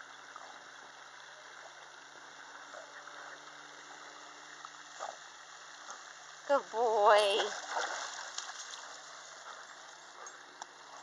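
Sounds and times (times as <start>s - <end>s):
dog paddling in water: 0.3s - 11.0s.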